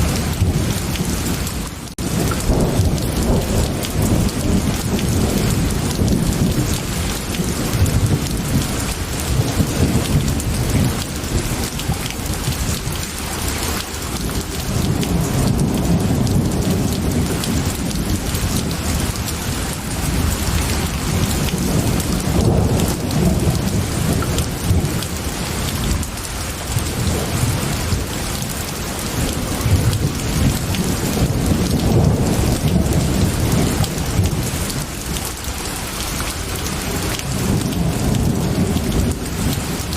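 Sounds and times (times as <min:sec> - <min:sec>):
low rolling thunder: 0:00.0 - 0:35.5, 0:36.4 - 0:39.9
heavy rain: 0:00.0 - 0:39.9.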